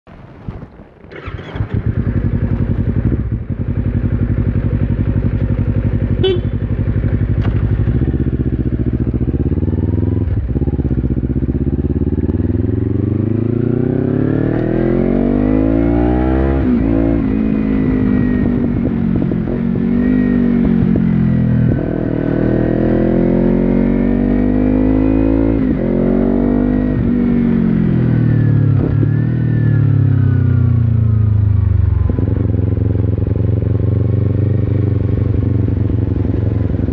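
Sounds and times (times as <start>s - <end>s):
motorcycle engine accelerating: 1.0s - 36.9s.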